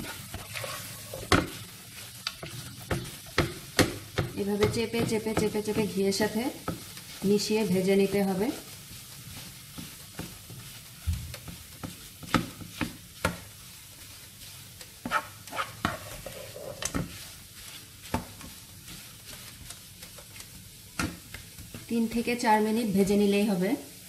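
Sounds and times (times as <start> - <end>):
spatula scraping a pan: 0.0 - 22.2
food sizzling in a pan: 0.0 - 24.0.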